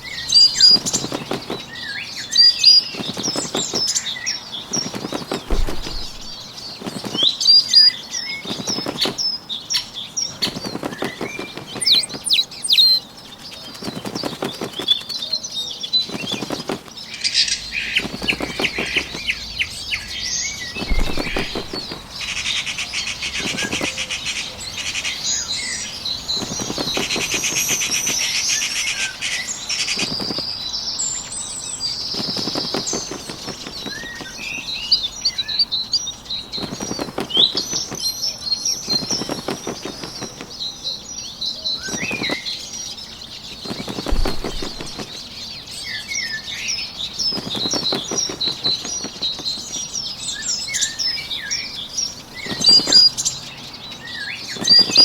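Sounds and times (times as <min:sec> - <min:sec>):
bird wings fluttering: 0:00.0 - 0:30.8, 0:31.7 - 0:40.7, 0:41.8 - 0:45.6, 0:47.0 - 0:53.3, 0:54.5 - 0:55.0
birds chirping and trilling: 0:00.0 - 0:55.0.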